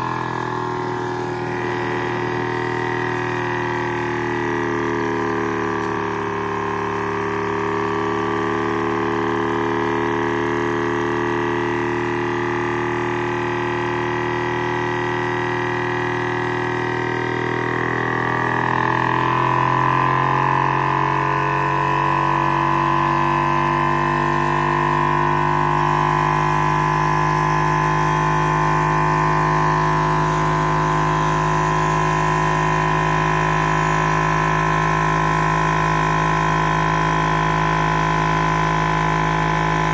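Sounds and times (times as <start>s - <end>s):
small engine droning hum: 0.0s - 39.9s.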